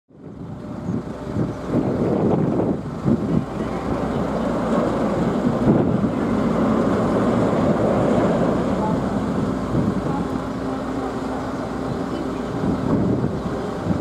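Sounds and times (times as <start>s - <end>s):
ferry engine rumble: 0.1s - 14.0s
wind buffeting microphone: 0.1s - 14.0s.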